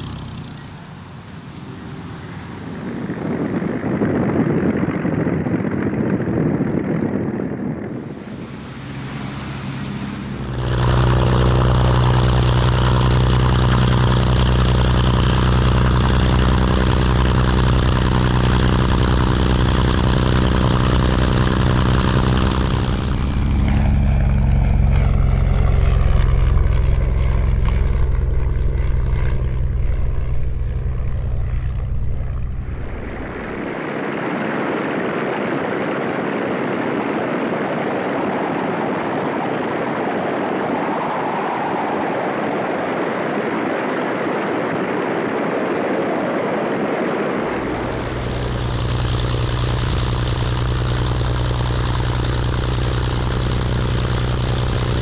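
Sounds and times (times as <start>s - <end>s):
biplane engine drone: 0.0s - 55.0s
steady rushing noise: 0.0s - 55.0s.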